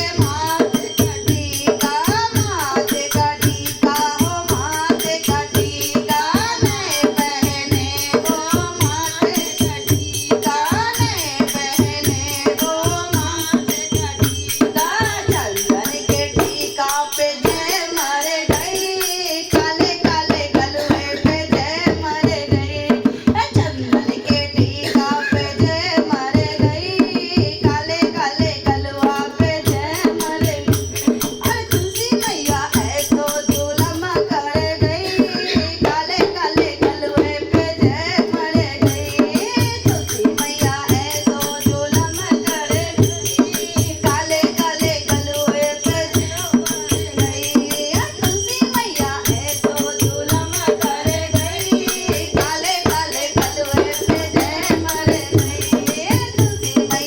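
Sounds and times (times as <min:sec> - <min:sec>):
hand drum beat: 0:00.0 - 0:57.0
jingling percussion: 0:00.0 - 0:57.0.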